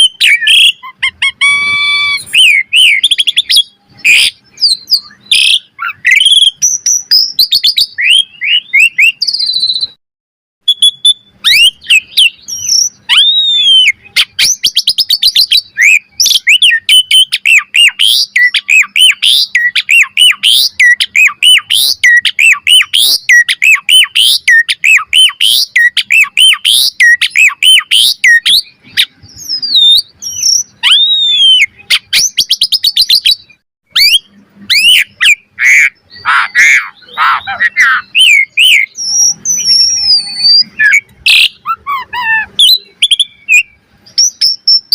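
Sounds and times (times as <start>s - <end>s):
starling singing: 0.0s - 10.0s, 10.6s - 44.9s.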